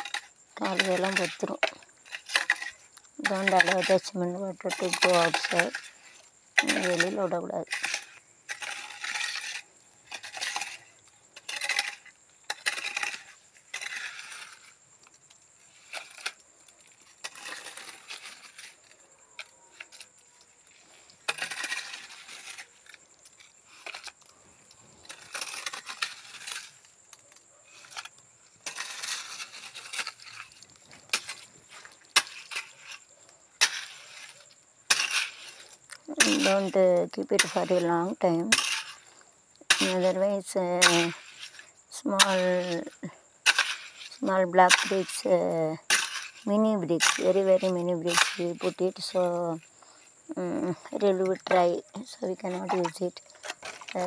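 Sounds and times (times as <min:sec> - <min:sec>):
tool scraping wet mortar: 0:00.0 - 0:54.0.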